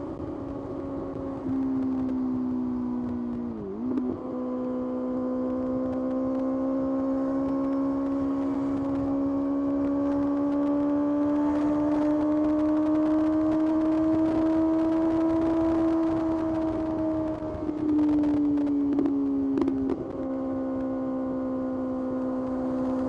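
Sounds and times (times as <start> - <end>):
motorcycle engine at high revs: 0.0 - 23.0.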